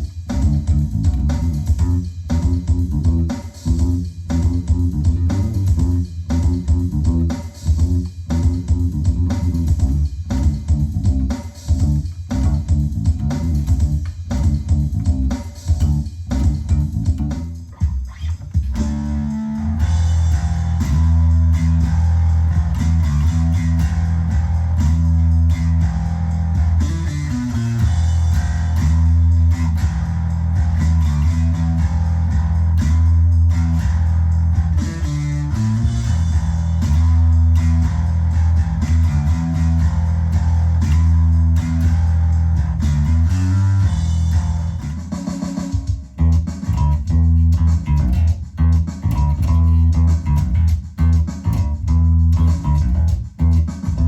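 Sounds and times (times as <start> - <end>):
electric bass guitar riff: 0.0 - 54.0.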